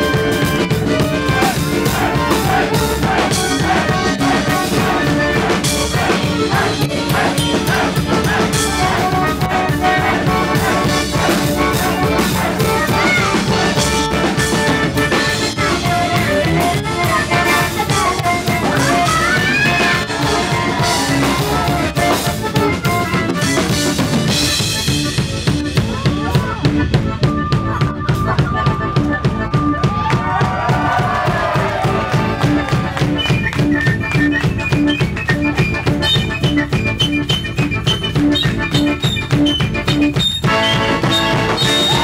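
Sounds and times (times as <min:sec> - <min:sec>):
button accordion tune: 0:00.0 - 0:42.0
drum kit beat: 0:00.0 - 0:42.0.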